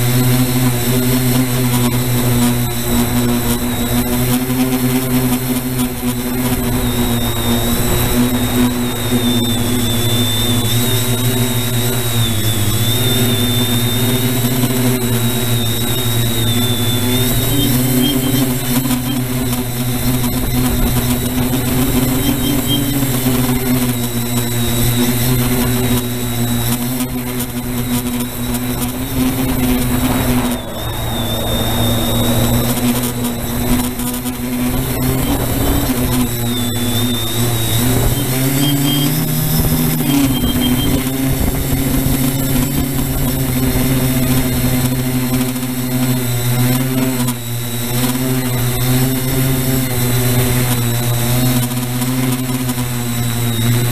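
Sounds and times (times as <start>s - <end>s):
quadcopter motors humming: 0.0s - 53.9s.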